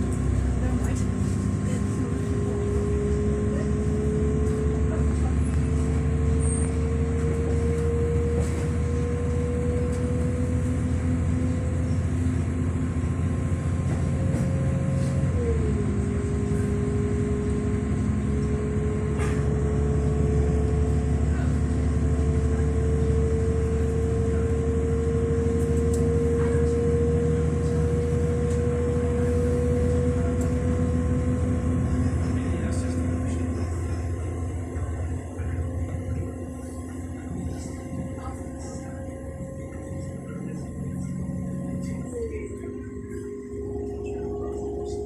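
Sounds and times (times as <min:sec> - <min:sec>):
train running inside carriage: 0:00.0 - 0:45.0.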